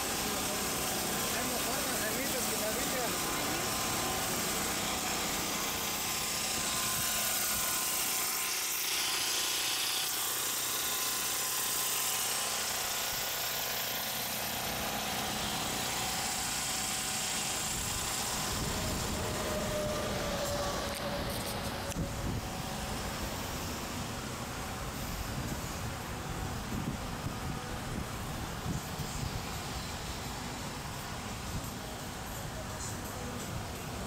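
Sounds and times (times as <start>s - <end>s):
machine whir with hiss: 0.0s - 34.0s.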